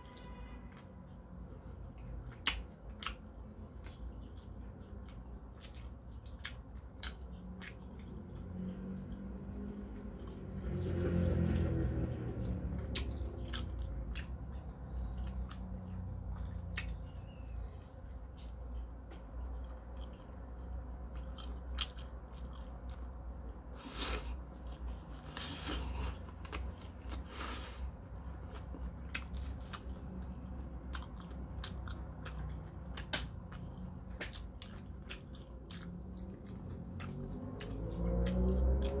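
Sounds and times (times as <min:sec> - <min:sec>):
person chewing with mouth smacks: 0:00.7 - 0:39.0.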